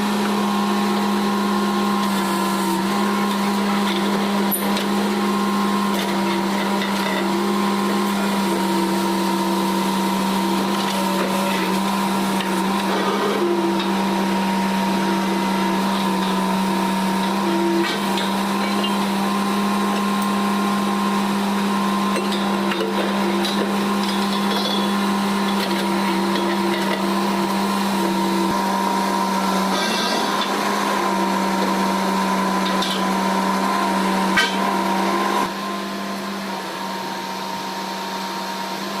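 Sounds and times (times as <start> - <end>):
drilling rig machinery humming: 0.0 - 39.0.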